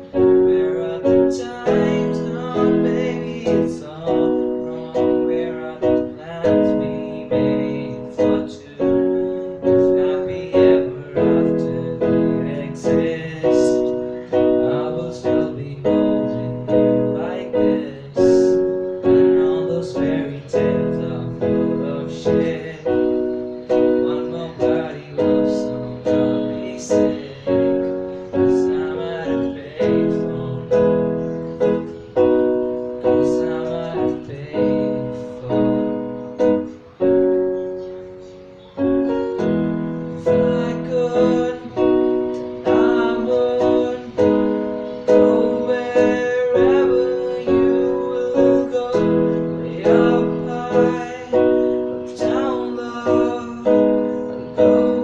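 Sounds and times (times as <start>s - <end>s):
piano chords: 0.0s - 55.0s.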